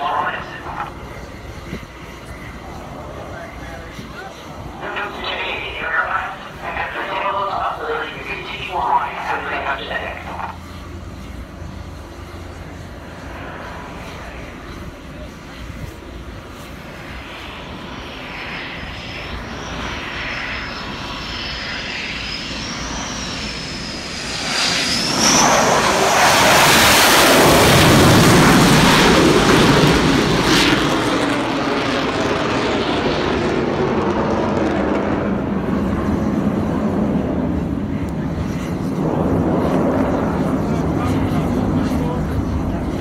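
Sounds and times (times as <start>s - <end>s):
jet engine whine: 0.0s - 43.0s
loud jet engine noise: 0.0s - 43.0s.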